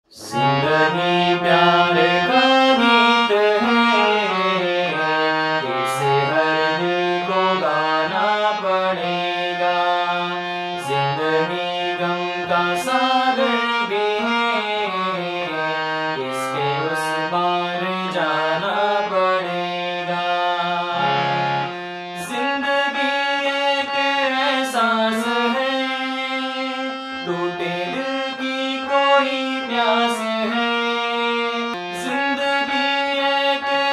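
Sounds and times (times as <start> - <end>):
harmonium playing slow melody: 0.1 - 33.9
man singing: 0.1 - 33.9.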